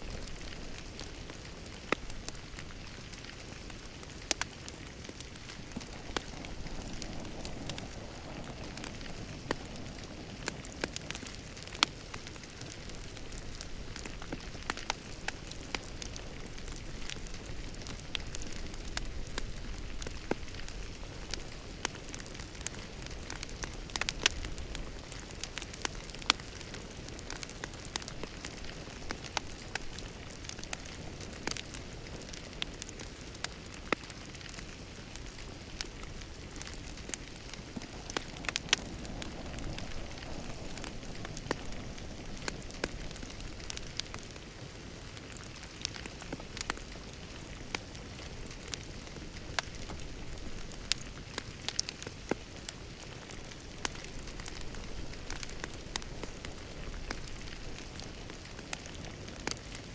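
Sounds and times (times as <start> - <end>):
wood fire crackling and popping: 0.0 - 59.9
fire hissing: 0.1 - 59.9.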